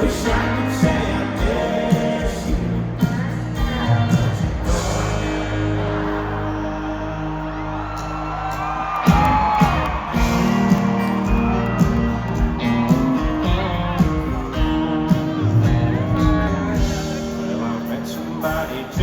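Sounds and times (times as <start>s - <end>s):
drums: 0.0s - 7.0s, 7.6s - 19.0s
guitar lick: 0.0s - 19.0s
live country band playing: 0.0s - 19.0s.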